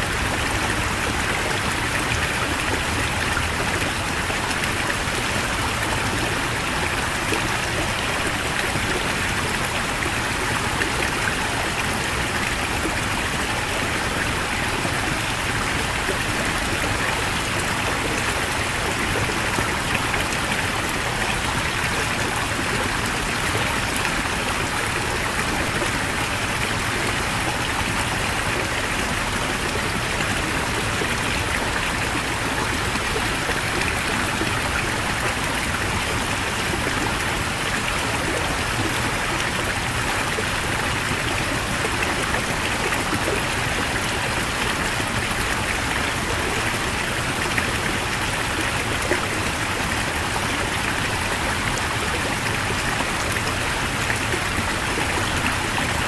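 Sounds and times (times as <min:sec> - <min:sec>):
mountain stream rushing: 0:00.0 - 0:56.0.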